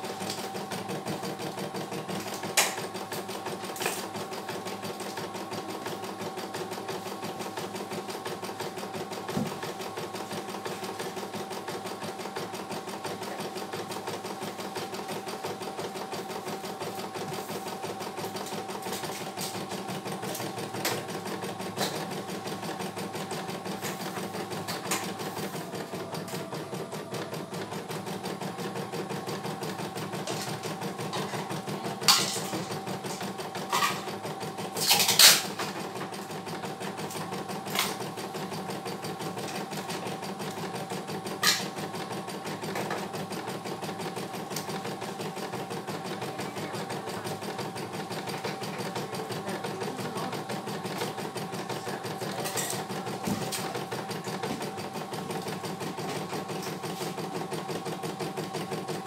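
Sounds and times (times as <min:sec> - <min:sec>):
embroidery machine stitching: 0:00.0 - 0:59.0.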